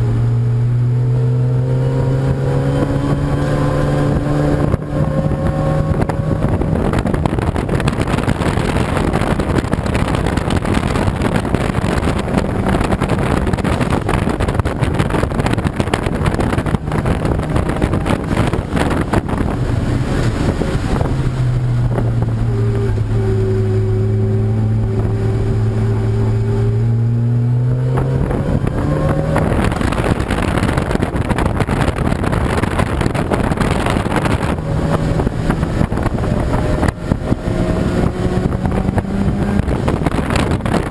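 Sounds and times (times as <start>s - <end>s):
engine revving up: 0.0s - 14.4s, 15.0s - 40.9s
racing car engines running: 0.0s - 40.9s.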